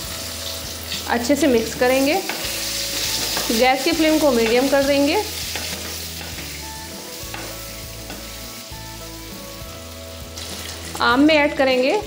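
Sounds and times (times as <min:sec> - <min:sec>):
mango slices sizzling in oil: 0:00.0 - 0:12.0.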